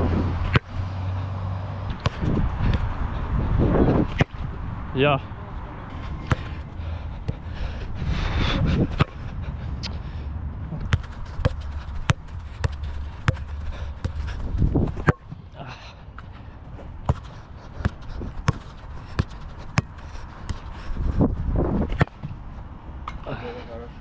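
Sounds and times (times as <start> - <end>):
wind rumble on microphone: 0.0 - 15.5, 16.6 - 23.0.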